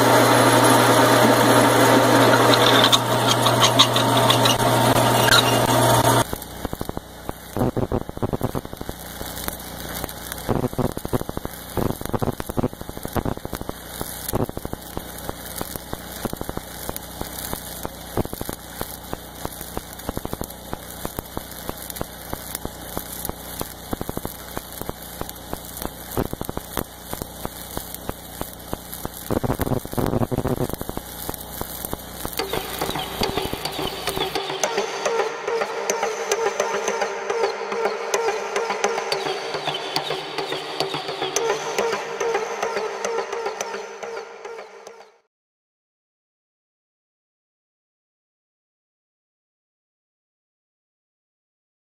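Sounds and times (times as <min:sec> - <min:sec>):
welding arc crackling: 0:00.0 - 0:44.8.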